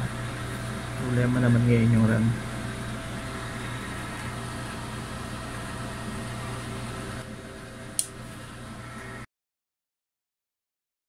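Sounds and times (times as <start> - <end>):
computer fans humming: 0.0 - 9.3.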